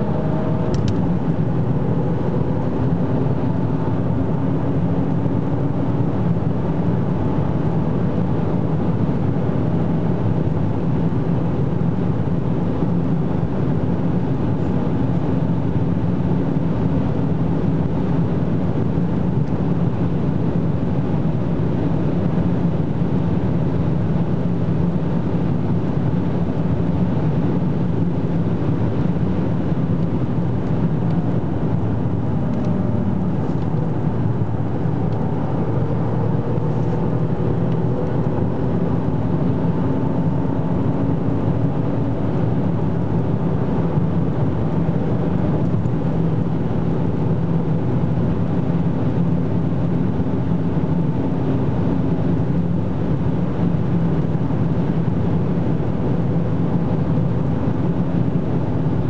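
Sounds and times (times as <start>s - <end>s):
car engine: 0.0s - 59.0s
wind and tyre roar in car cabin: 0.0s - 59.0s.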